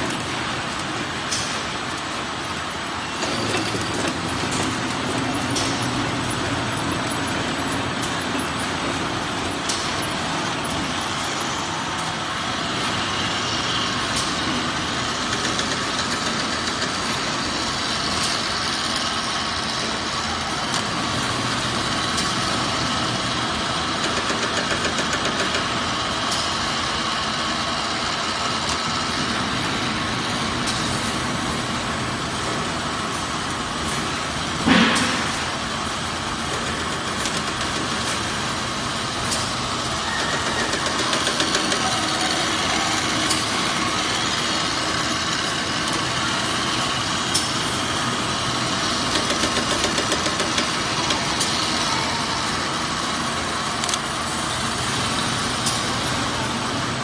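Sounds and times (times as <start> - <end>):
packing machinery running: 0.0 - 57.0.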